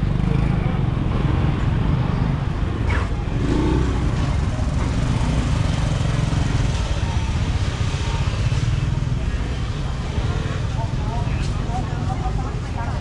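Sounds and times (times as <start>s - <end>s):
market hubbub: 0.0s - 13.0s
motorbike engines rumbling: 0.0s - 13.0s.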